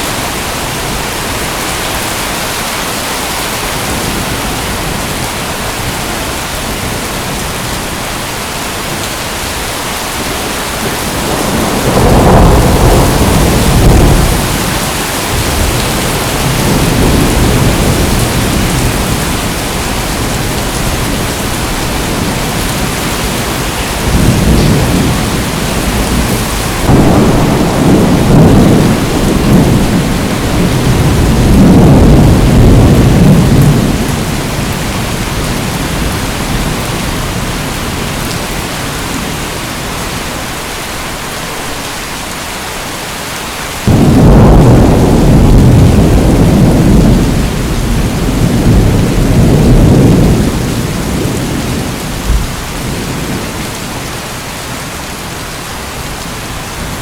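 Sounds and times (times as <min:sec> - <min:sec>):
heavy rain: 0:00.0 - 0:57.0
thunder rumbling: 0:03.5 - 0:39.5, 0:43.8 - 0:54.2.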